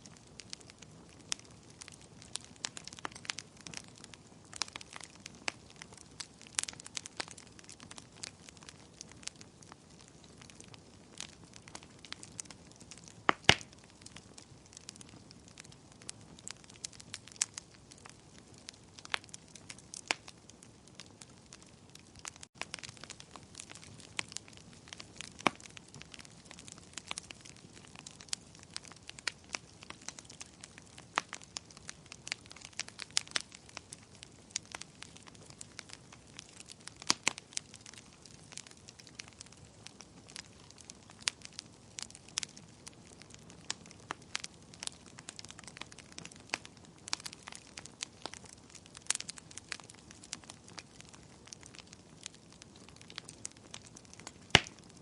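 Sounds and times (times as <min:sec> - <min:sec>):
burning logs popping: 0:00.0 - 0:55.0
soft steady hiss: 0:00.0 - 0:55.0
wood fire crackling: 0:00.0 - 0:55.0.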